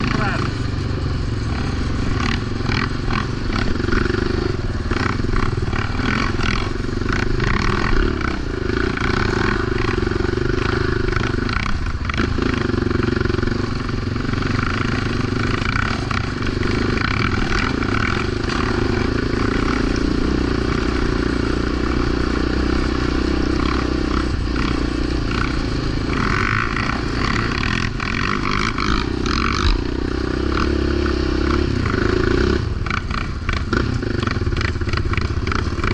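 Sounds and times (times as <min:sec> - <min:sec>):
quad engine running: 0:00.0 - 0:35.9.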